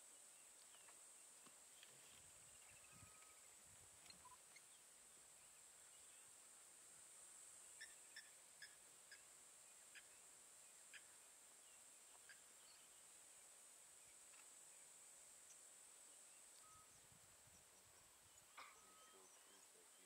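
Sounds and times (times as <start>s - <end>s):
faint chirps: 0.0s - 20.0s
high-pitched hiss: 0.0s - 20.0s.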